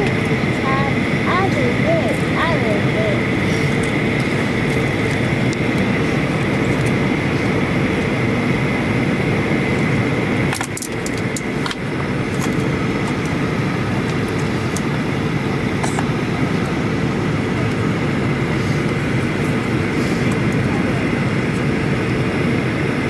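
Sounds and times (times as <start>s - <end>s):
jet engine and airflow rumble: 0.0s - 23.0s.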